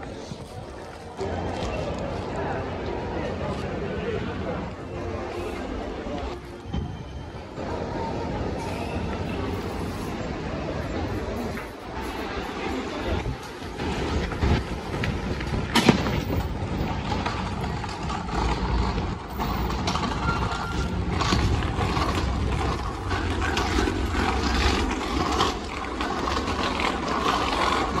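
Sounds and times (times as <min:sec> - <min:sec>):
low city rumble: 0:00.0 - 0:28.0.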